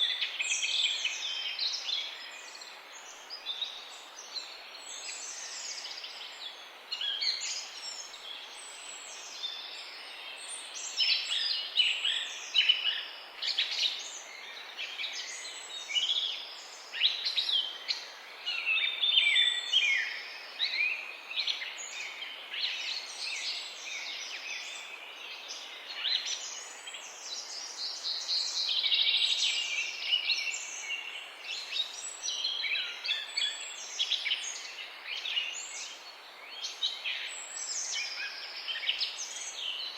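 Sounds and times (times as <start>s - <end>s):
faint outdoor hiss: 0.0s - 39.9s.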